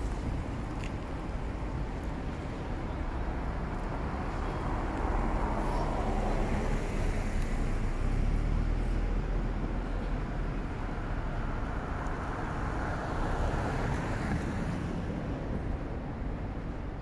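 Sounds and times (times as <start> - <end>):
rumble of passing cars: 0.0 - 17.0.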